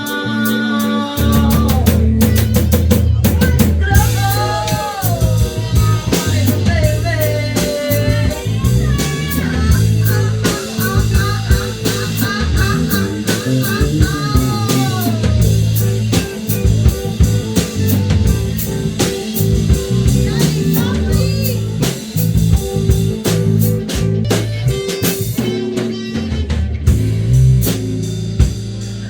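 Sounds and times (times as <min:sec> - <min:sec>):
drum kit: 0:00.0 - 0:29.0
guitar lead line bending: 0:00.0 - 0:29.0
low bass notes: 0:00.0 - 0:29.0.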